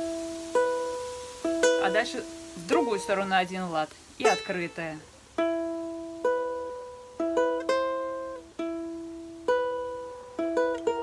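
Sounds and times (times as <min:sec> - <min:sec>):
ukulele plucked notes: 0:00.0 - 0:11.0.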